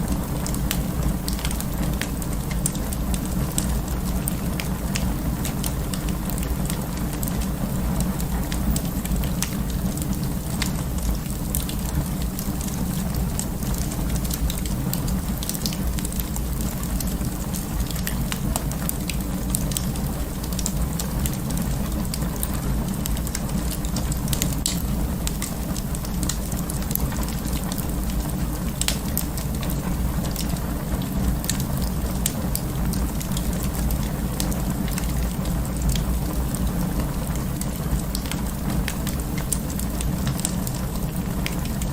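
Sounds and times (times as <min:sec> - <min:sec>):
fire crackling and popping: 0:00.0 - 0:41.9
wood fire flames rumbling: 0:00.0 - 0:41.9.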